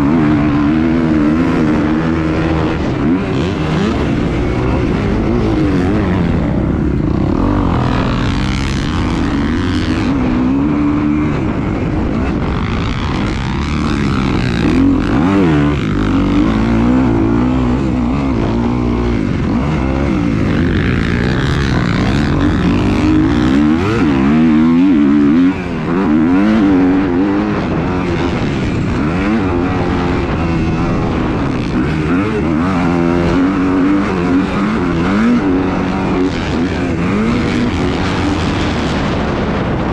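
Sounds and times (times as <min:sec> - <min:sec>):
racing engines revving: 0:00.0 - 0:39.9.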